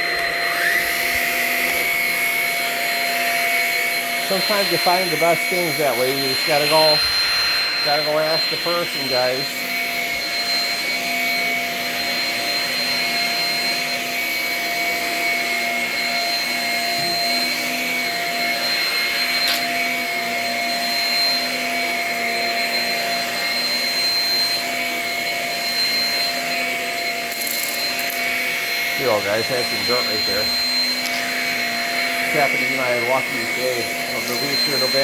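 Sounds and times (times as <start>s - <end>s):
vacuum cleaner motor whine: 0.0s - 35.0s.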